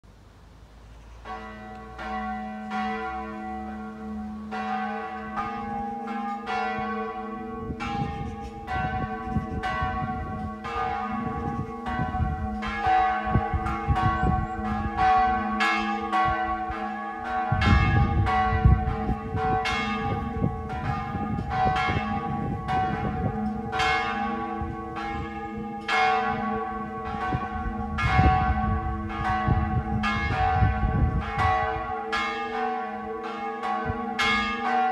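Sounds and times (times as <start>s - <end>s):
church bells ringing: 1.2s - 34.9s.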